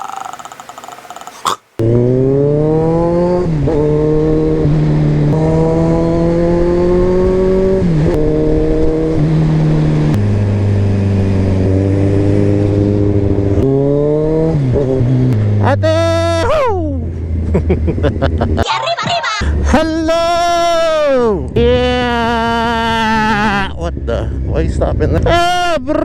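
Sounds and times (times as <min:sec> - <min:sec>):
motorcycle engine accelerating: 0:00.0 - 0:18.6, 0:19.4 - 0:26.0.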